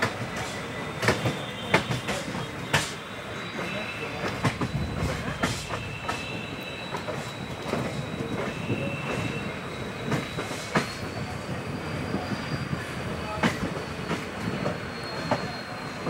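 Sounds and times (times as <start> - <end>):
train wheels rumbling on rails: 0.0 - 16.0
high wheel squeal: 0.2 - 16.0.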